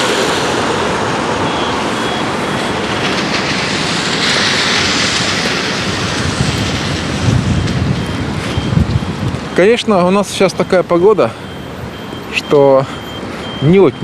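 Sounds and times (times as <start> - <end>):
tyres hissing on wet road: 0.0 - 14.0.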